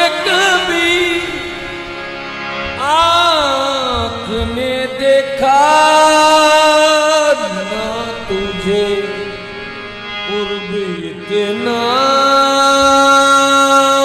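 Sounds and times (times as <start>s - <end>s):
devotional singing with wavering melody: 0.0s - 14.0s.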